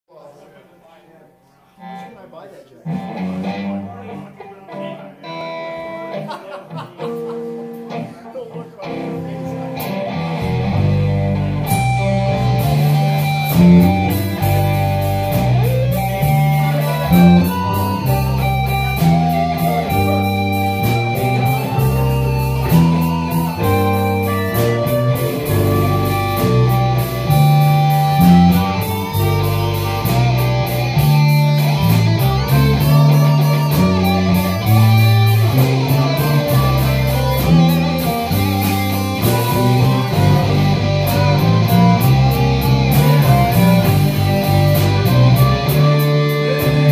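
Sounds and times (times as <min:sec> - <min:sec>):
electric guitar lead: 0:02.8 - 0:46.9
electric bass: 0:02.9 - 0:04.4, 0:08.8 - 0:46.9
drum kit: 0:05.5 - 0:08.2, 0:08.8 - 0:46.9.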